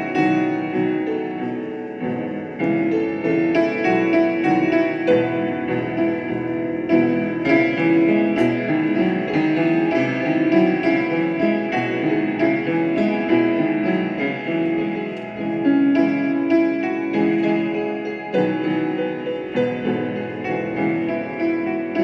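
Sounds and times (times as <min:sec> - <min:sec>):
slow keyboard tune: 0:00.0 - 0:22.0.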